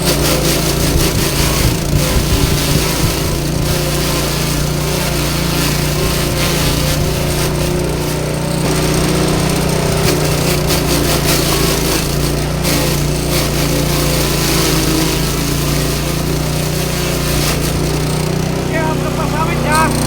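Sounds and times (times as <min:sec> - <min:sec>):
grass chopper machine running: 0:00.0 - 0:20.0.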